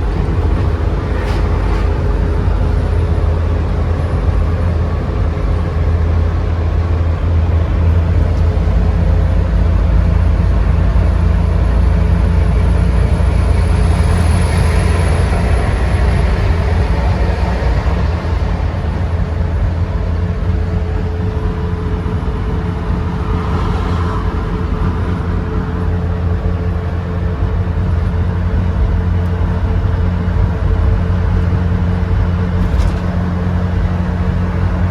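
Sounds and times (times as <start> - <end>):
van engine and road drone: 0.0 - 34.9.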